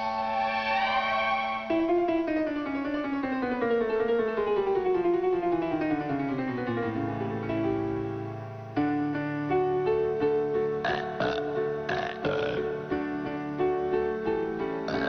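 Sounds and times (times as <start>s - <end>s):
piano descending run: 0.0s - 15.0s.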